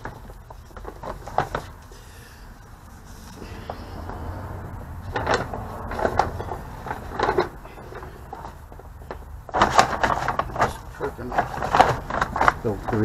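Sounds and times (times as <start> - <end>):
hands handling tools and parts: 0.0 - 13.0.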